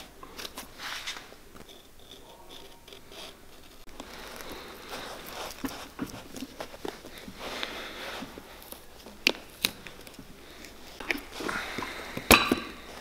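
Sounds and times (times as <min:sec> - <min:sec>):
knife scraping leather: 0:00.0 - 0:12.1.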